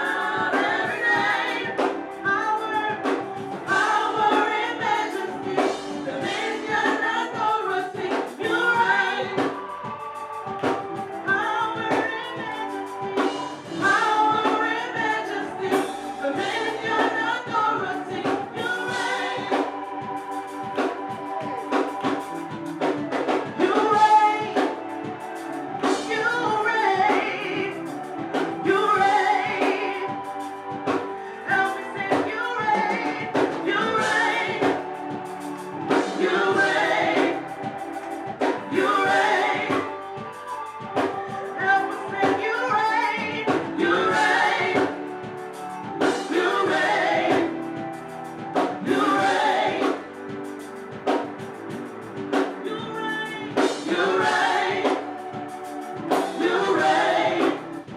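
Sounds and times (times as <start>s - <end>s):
drum kit beat: 0.0s - 57.9s
gospel choir singing: 0.0s - 57.9s
organ chords: 0.0s - 57.9s.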